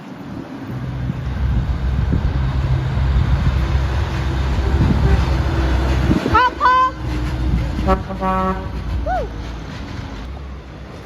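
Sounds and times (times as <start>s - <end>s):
diesel truck engine rumble: 0.2s - 11.0s.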